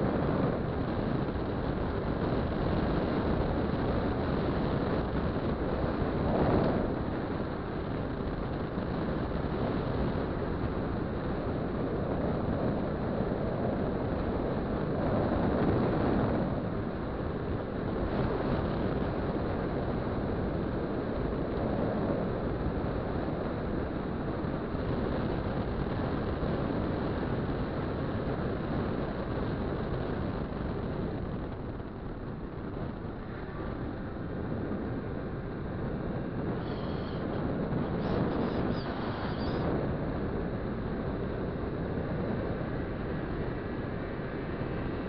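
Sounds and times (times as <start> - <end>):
wind on microphone: 0.0 - 45.0.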